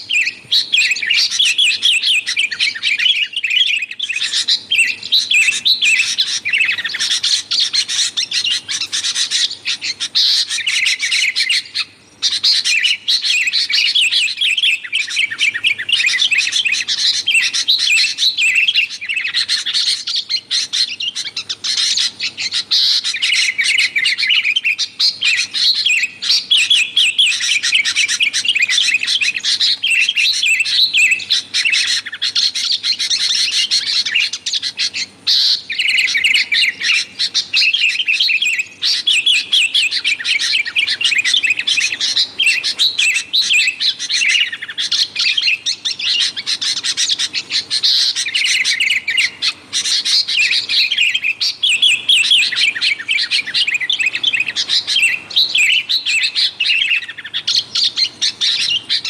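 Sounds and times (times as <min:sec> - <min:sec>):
birds chirping rapidly: 0:00.0 - 0:59.0.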